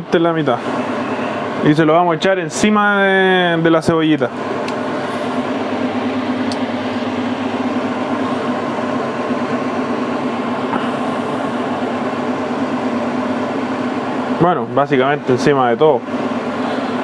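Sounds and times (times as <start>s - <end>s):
extractor fan humming: 0.0s - 17.0s.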